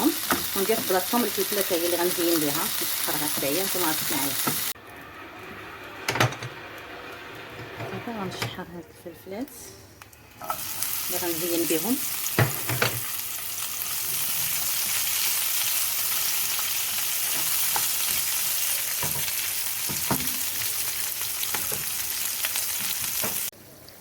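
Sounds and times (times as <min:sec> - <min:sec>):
peppers sizzling in oil: 0:00.0 - 0:05.7, 0:09.8 - 0:24.0.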